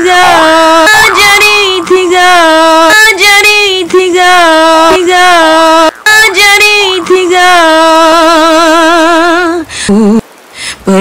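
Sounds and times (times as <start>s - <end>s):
woman singing long notes: 0.0s - 11.0s.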